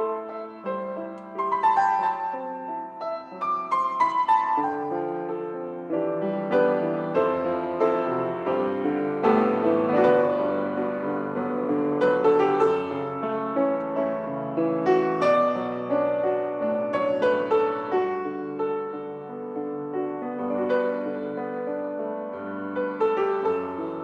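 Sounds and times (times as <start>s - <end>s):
slow solo piano piece: 0.0s - 24.0s.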